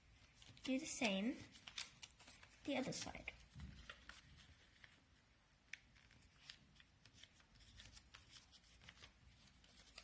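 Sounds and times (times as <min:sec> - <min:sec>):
paper being folded and creased: 0:00.0 - 0:10.0.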